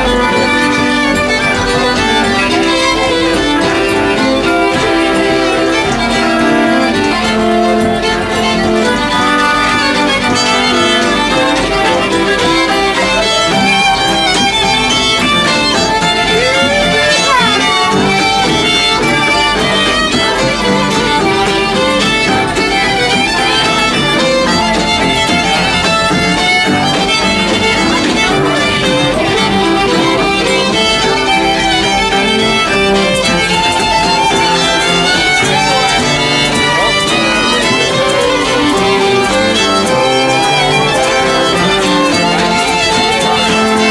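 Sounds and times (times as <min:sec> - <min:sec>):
acoustic guitar strumming: 0:00.0 - 0:43.9
fiddle playing folk tune: 0:00.0 - 0:43.9.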